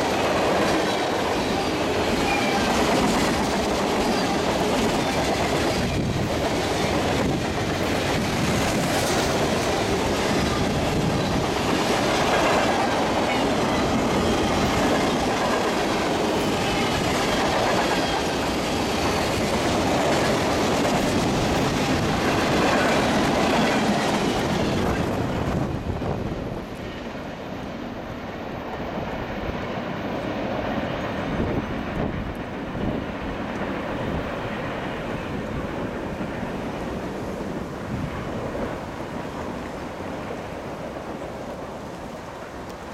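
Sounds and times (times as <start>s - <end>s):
freight train cars rolling past: 0.0s - 42.9s.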